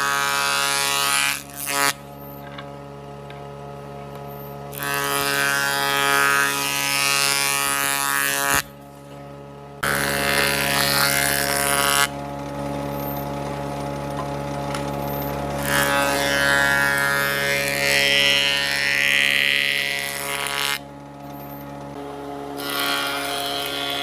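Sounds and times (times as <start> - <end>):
power tool cutting wood: 0.0 - 24.0
power tool motor hum: 0.0 - 24.0.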